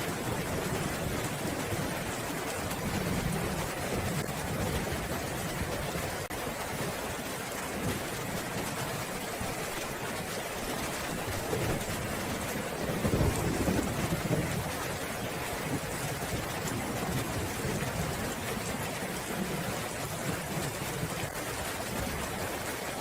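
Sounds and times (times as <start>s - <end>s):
low rolling thunder: 0.0s - 7.0s, 11.1s - 22.7s
heavy rain hissing: 0.0s - 23.0s.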